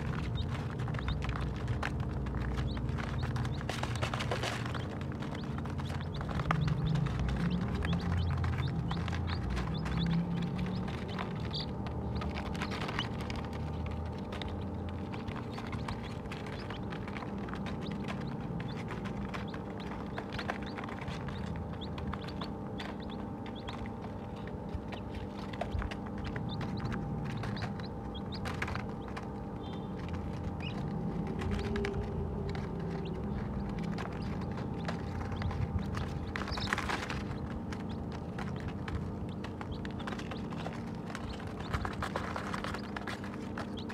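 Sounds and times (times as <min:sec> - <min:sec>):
chicks pecking at plastic feeder: 0:00.0 - 0:43.9
steady low hum: 0:00.0 - 0:43.9.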